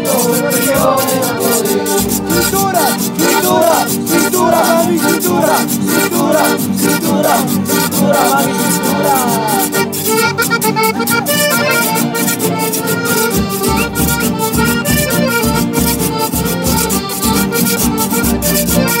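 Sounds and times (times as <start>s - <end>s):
accordion melody: 0.0s - 19.0s
strummed guitars: 0.0s - 19.0s.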